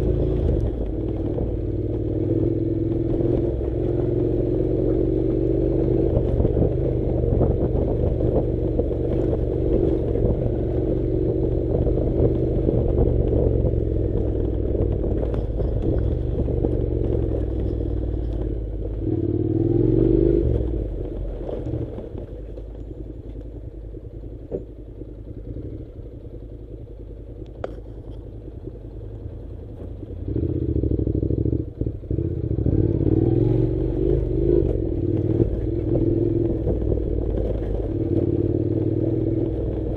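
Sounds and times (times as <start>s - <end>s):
clatter over rough track: 0.0s - 39.9s
motorcycle engine running: 0.0s - 39.9s.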